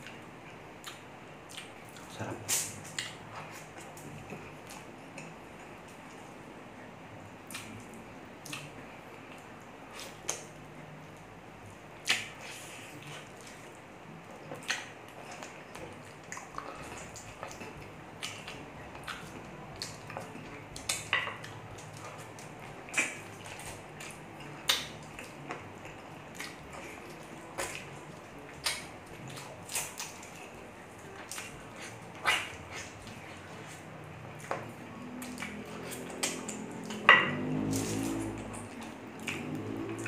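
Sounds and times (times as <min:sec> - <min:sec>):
man chewing meat: 0:00.0 - 0:40.0.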